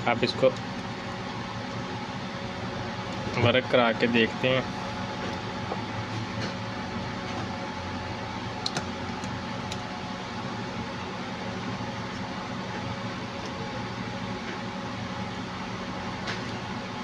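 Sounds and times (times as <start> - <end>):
fan-like mechanical hum: 0.0 - 17.0.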